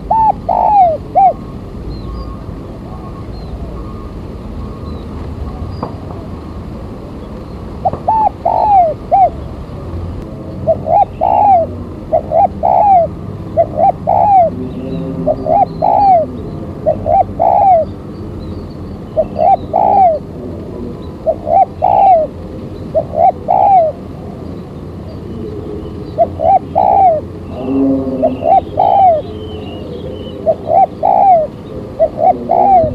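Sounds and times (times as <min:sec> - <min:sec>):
dove cooing: 0:00.0 - 0:06.5, 0:07.8 - 0:09.5, 0:10.6 - 0:17.9, 0:19.2 - 0:32.9.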